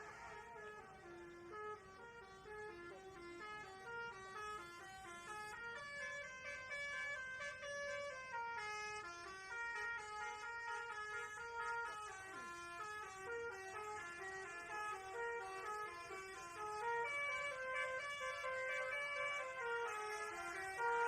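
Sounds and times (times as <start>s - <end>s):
bus horn playing a melody: 0.0s - 21.0s.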